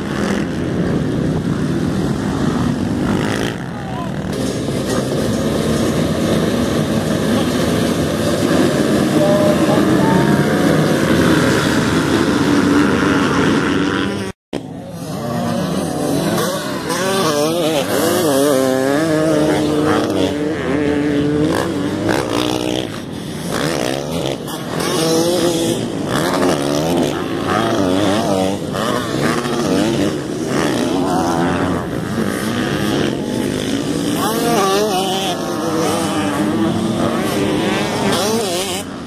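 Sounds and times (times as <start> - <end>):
motocross bike engines revving: 0.0 - 39.0.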